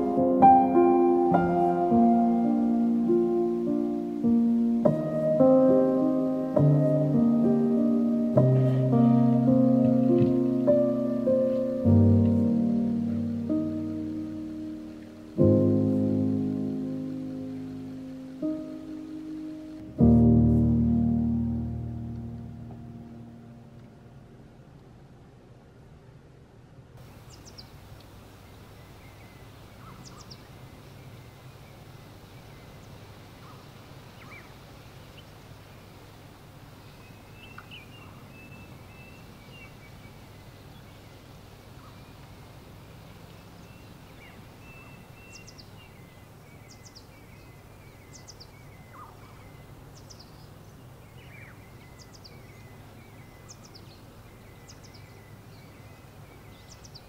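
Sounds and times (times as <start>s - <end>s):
birds chirping: 0.0s - 24.7s, 27.0s - 57.0s
low background hum and hiss: 0.0s - 57.0s.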